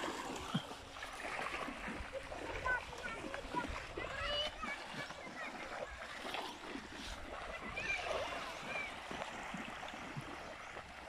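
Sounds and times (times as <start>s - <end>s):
legs splashing in shallow water: 0.0s - 11.0s
small waves lapping: 0.0s - 11.0s.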